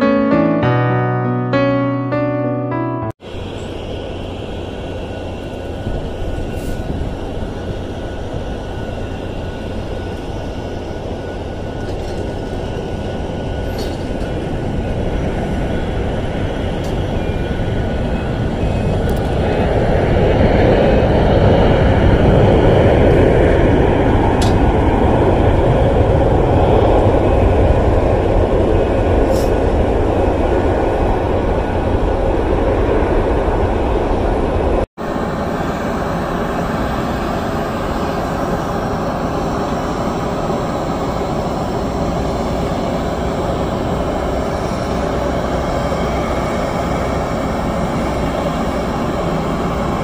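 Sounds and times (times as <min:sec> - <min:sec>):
jet engine roar: 0:03.2 - 0:50.0.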